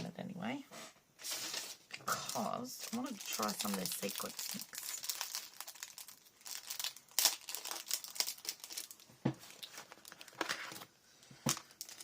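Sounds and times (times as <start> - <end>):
packaging rustling and crinkling: 1.2 - 12.0.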